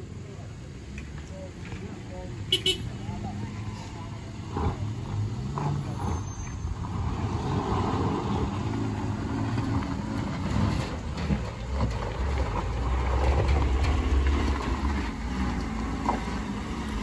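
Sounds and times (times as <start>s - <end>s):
pickup truck engine climbing: 0.0s - 17.0s.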